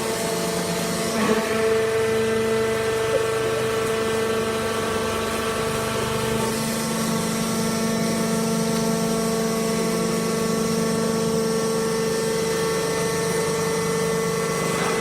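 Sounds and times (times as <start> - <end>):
hydraulic pump humming: 0.0 - 15.0.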